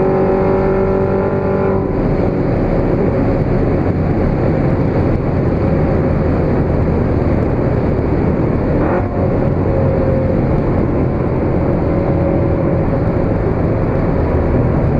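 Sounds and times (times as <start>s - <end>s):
car engine droning: 0.0s - 14.9s
road and wind noise: 0.0s - 14.9s.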